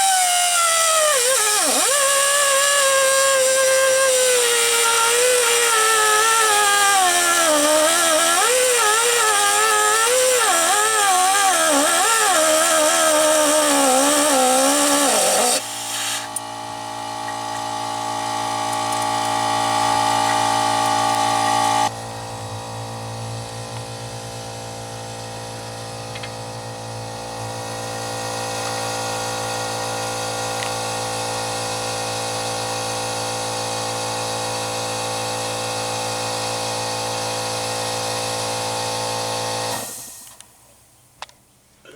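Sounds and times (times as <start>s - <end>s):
pneumatic cutting tool whining: 0.0s - 22.0s, 23.5s - 40.6s.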